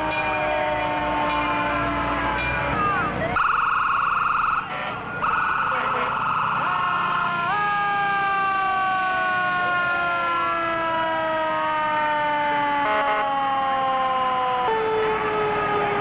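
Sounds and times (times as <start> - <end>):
fire truck sirens: 0.0 - 16.0.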